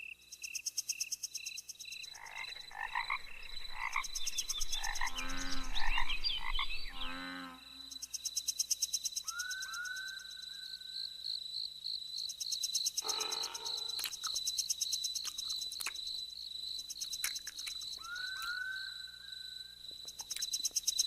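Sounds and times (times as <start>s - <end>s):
insects and frogs trilling: 0.0s - 21.0s.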